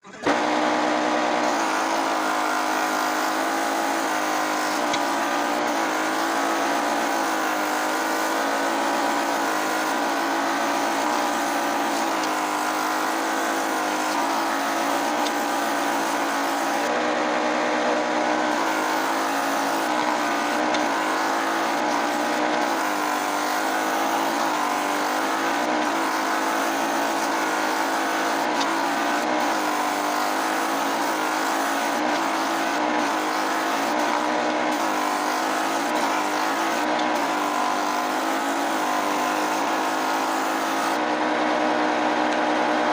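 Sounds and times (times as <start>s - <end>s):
wood lathe whine: 0.2s - 42.9s.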